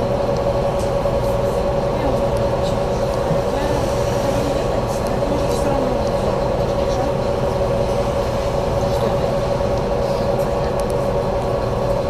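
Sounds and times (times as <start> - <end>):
road rumble: 0.0 - 12.0
trolleybus electric whine: 0.0 - 12.0.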